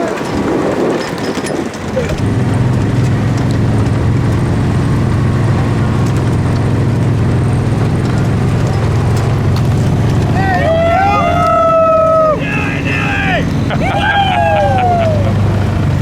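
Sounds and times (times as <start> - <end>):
vehicle engine running steadily: 1.8 - 16.0.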